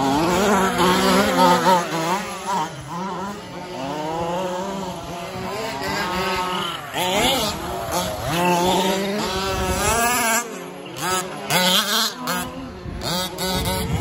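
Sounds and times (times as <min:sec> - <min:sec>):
rc car motors whining: 0:00.0 - 0:14.0.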